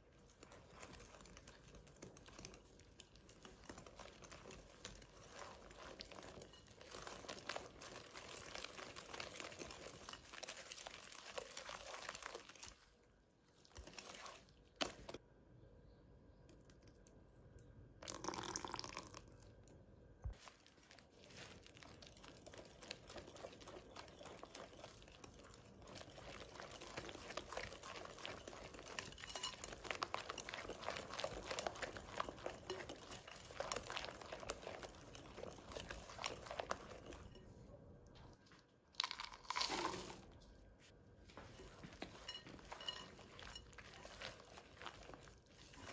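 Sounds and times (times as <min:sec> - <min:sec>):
wire whisk mixing batter: 0:00.0 - 0:15.2, 0:20.3 - 0:38.3, 0:41.3 - 0:45.9.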